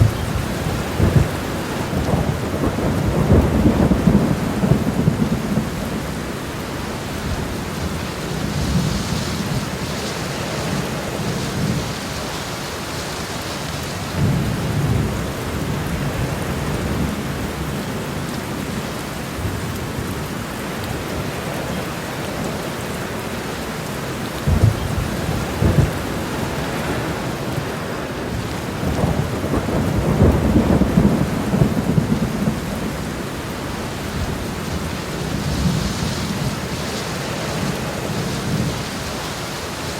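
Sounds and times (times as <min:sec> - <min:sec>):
heavy rain on a road: 0:00.0 - 0:39.9.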